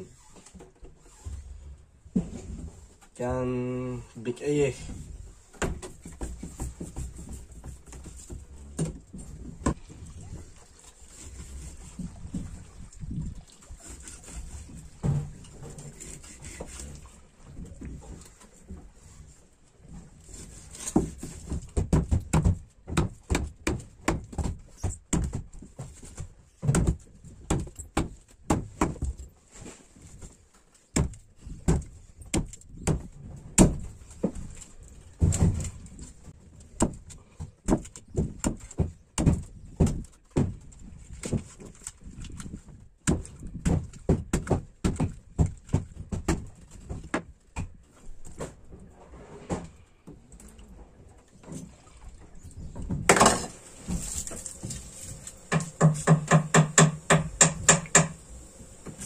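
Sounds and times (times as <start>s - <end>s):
knocks and thumps on boat: 4.8s - 29.4s, 30.0s - 58.2s.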